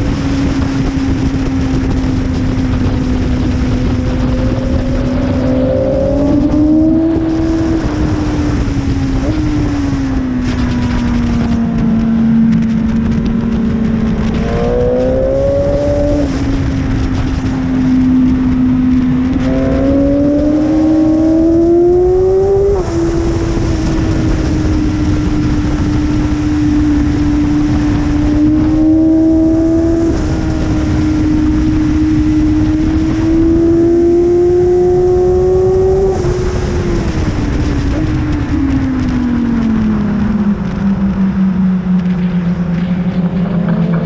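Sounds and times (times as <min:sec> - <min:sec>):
heavy rushing noise: 0:00.0 - 0:44.0
motorcycle engine revving: 0:00.0 - 0:44.0.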